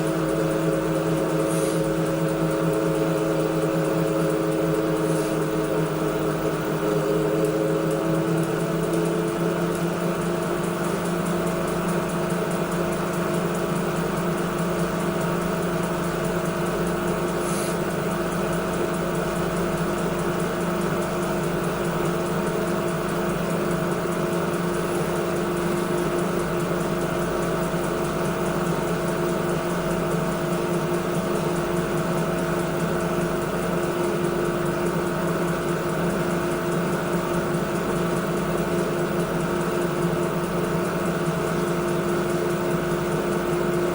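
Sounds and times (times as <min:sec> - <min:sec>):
washing machine humming: 0:00.0 - 0:43.9.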